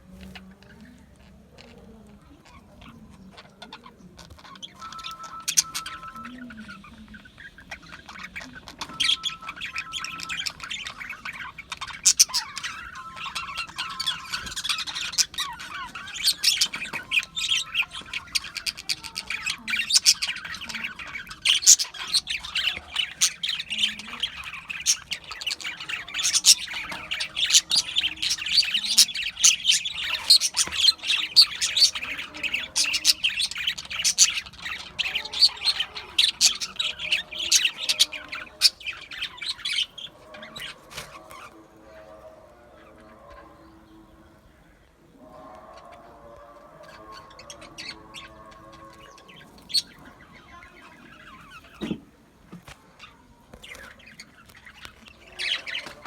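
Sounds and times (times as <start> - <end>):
budgerigars chattering: 0.0 - 44.0, 46.7 - 56.0.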